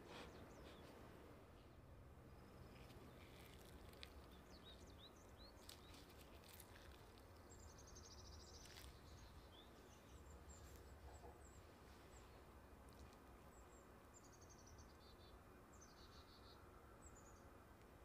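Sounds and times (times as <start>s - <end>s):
faint birds chirping: 0.0s - 18.0s
low steady hum: 0.0s - 18.0s.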